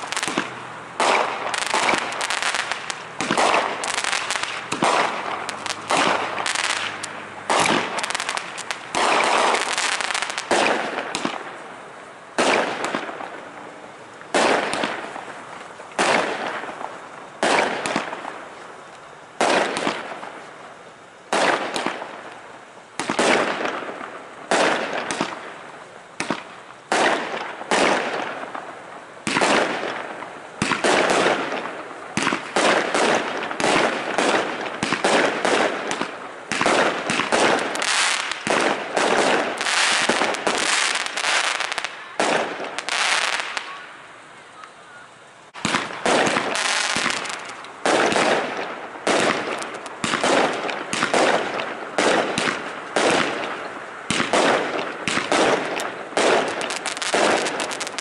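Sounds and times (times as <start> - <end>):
fireworks bangs echoing: 0.0 - 18.8, 19.4 - 20.6, 21.2 - 44.0, 45.5 - 58.0.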